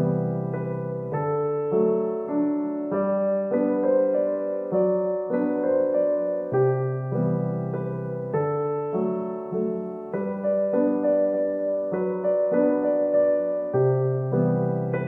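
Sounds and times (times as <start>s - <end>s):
gentle piano-like keyboard music: 0.0s - 15.0s.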